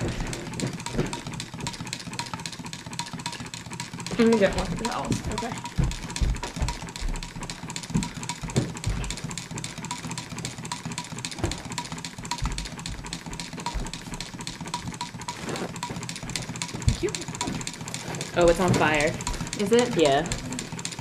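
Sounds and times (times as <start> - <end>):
stirling engine ticking: 0.0 - 21.0.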